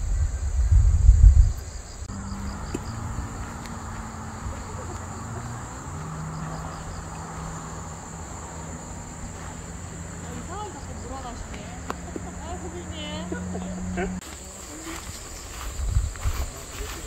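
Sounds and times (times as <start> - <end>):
wind buffeting microphone: 0.0 - 14.2, 15.0 - 17.0
insects chirring: 0.0 - 17.0.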